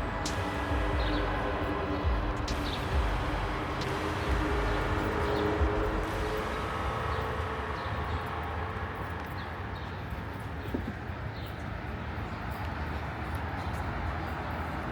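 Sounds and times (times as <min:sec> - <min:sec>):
low rumble of traffic: 0:00.0 - 0:14.9.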